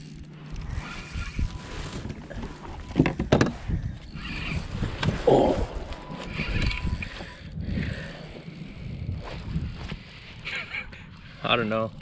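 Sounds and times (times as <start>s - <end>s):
spinning reel being cranked: 0.0s - 2.9s, 3.8s - 12.0s.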